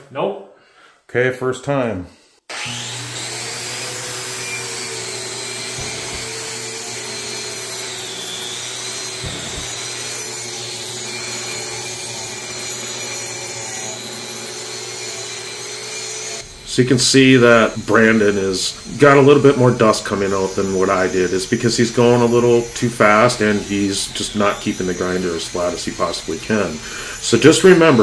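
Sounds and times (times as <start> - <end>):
angle grinder grinding concrete: 2.5 - 28.0
dust extraction vacuum: 2.5 - 28.0.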